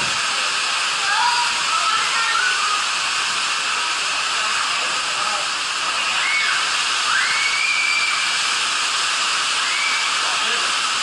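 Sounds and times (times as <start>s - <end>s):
water rushing through a tube: 0.0s - 11.0s.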